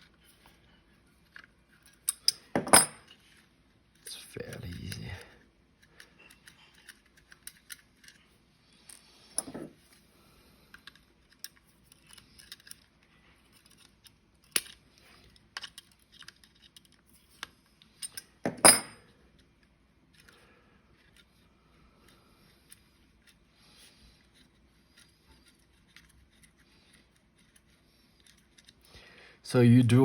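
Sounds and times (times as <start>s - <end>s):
plastic parts clicking and rattling: 1.1s - 9.1s, 10.6s - 18.4s, 19.0s - 23.4s, 24.2s - 28.9s.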